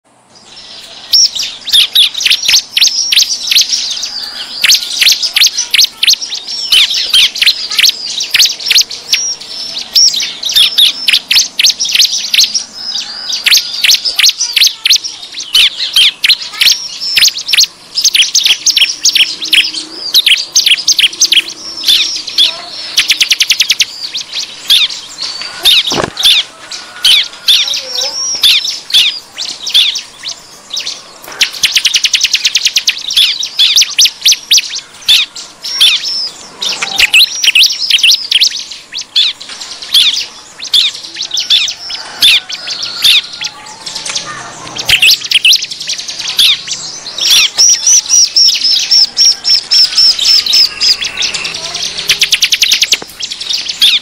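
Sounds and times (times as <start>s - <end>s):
bird chirping and trilling: 0.1s - 54.0s.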